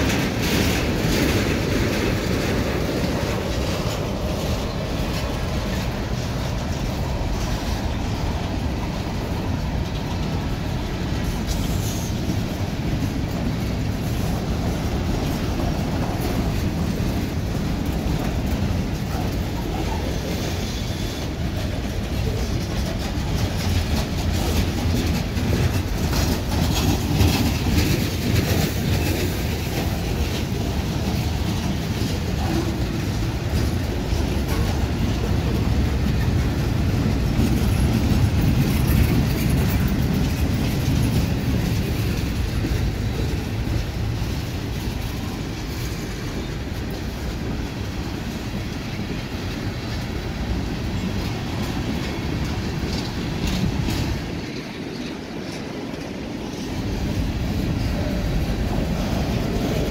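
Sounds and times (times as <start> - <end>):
wheel-on-rail rumble: 0.0 - 59.9
wheels clacking over rail joints: 0.0 - 59.9.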